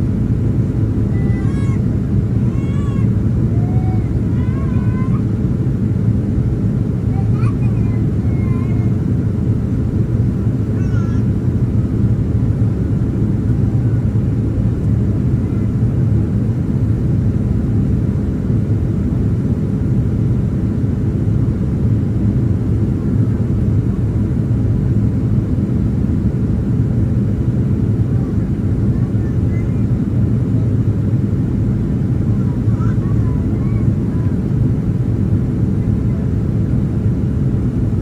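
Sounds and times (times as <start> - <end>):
airplane cabin engine rumble: 0.0 - 38.0
faint steady hum: 0.0 - 38.0.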